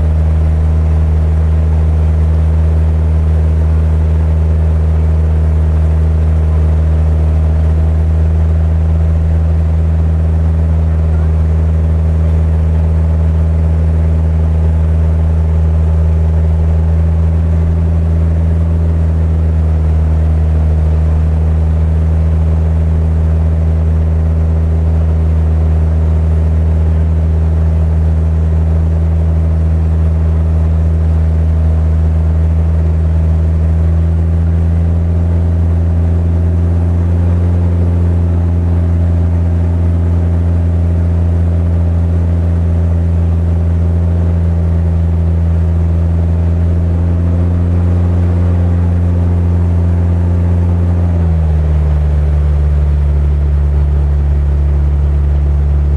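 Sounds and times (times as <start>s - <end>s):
boat engine drone: 0.0s - 55.9s.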